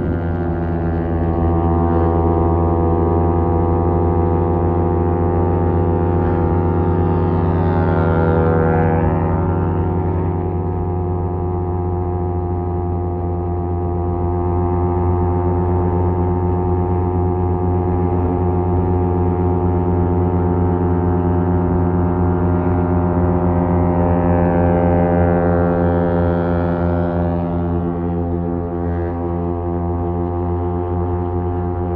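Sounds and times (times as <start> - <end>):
motorcycle exhaust drone: 0.0 - 31.9.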